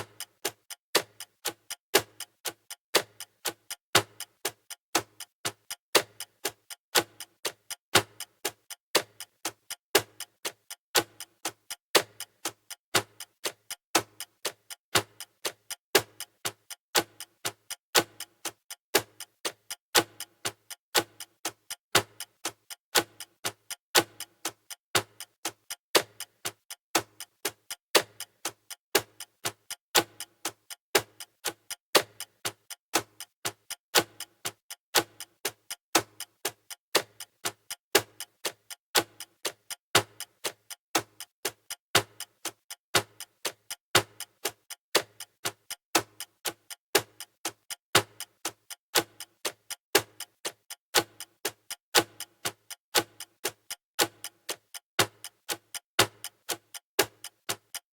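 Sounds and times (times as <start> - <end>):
clock ticking: 0.0 - 57.9.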